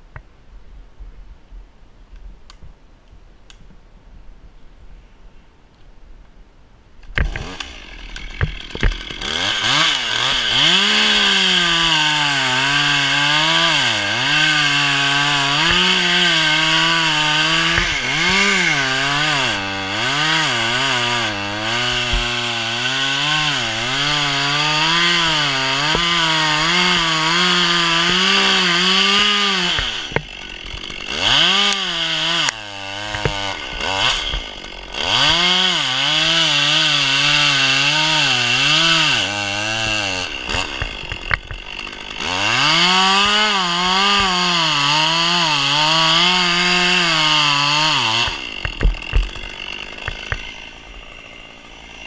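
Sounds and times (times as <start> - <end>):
chainsaw cutting wood: 7.1 - 52.0.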